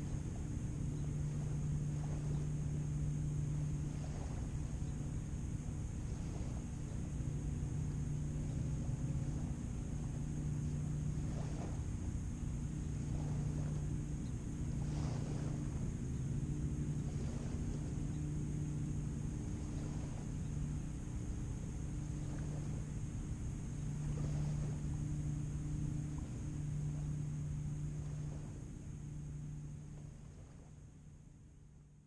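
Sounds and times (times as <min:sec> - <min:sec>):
motorboat engine droning: 0:00.0 - 0:32.0
water noise: 0:00.0 - 0:32.0
wind: 0:00.0 - 0:32.0.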